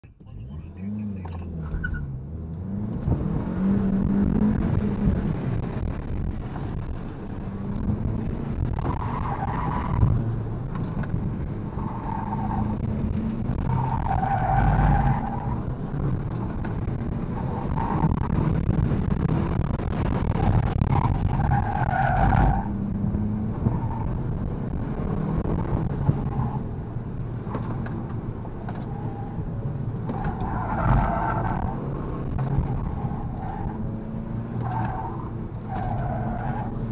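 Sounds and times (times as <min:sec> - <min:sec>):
car engine from inside cabin: 0:00.0 - 0:35.7
road noise: 0:00.0 - 0:36.9.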